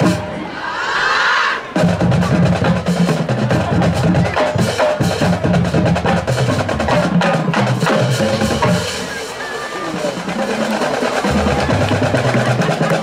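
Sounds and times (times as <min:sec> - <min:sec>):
low drum notes: 0:01.7 - 0:13.0.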